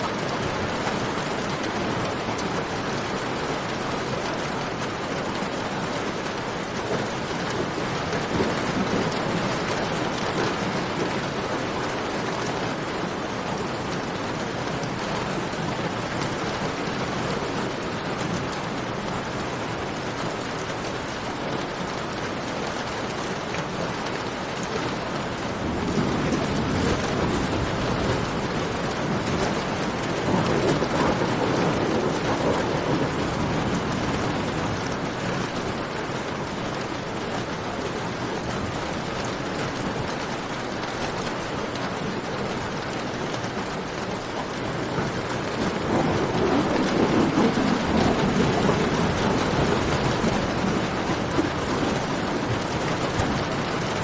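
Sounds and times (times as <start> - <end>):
rain falling in a cave: 0.0 - 54.0.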